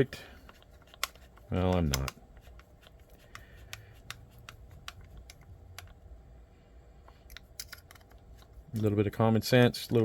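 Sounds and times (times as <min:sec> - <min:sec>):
small parts clicking and tapping: 0:00.2 - 0:06.0, 0:07.0 - 0:10.0.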